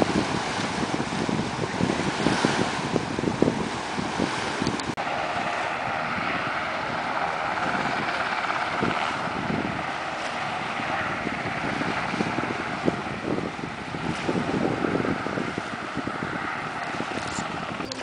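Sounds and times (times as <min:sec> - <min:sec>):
steady mechanical drone: 0:00.0 - 0:18.0
wind buffeting microphone: 0:00.0 - 0:18.0.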